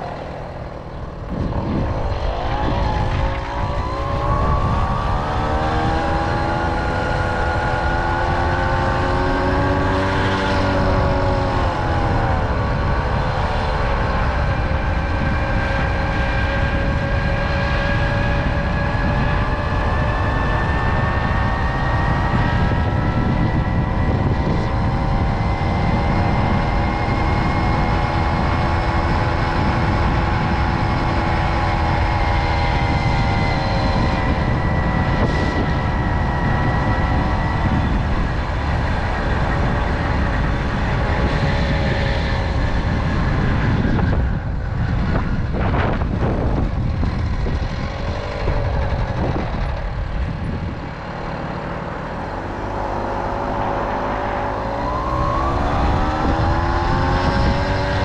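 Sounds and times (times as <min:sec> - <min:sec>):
moped engine running: 0:00.0 - 0:58.0
wind buffeting microphone: 0:00.0 - 0:58.0.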